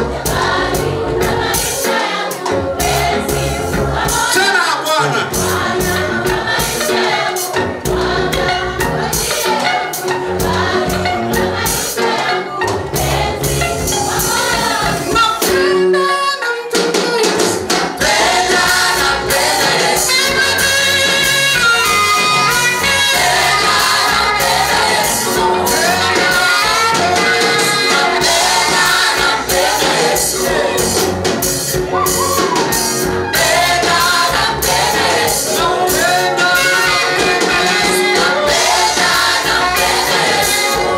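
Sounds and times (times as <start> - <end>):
band with steady beat: 0.0 - 40.9
gospel choir singing: 0.0 - 40.9.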